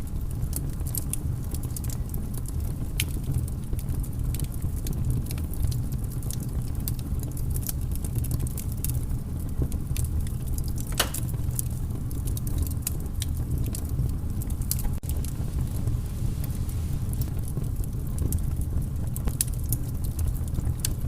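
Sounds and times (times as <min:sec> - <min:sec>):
fire pops and snaps: 0:00.0 - 0:21.0
low fire rumble: 0:00.0 - 0:21.0.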